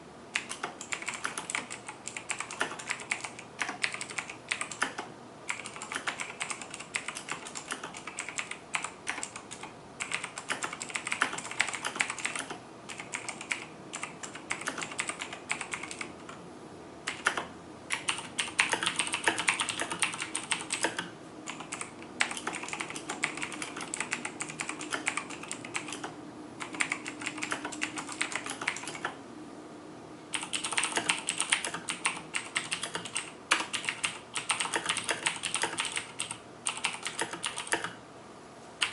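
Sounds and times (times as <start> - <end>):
typing on a mechanical keyboard: 0.4 - 16.4, 17.1 - 29.2, 30.3 - 38.0.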